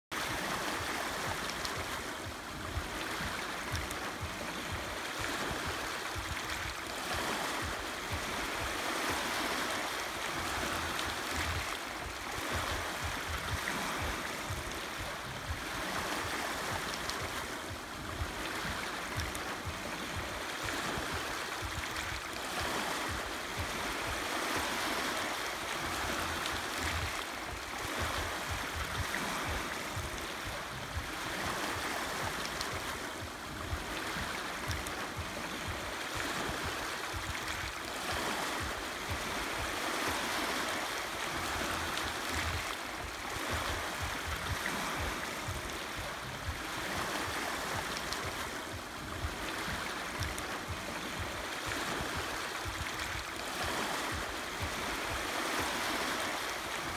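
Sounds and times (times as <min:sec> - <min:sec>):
waves washing over pebbles: 0:00.1 - 0:56.9.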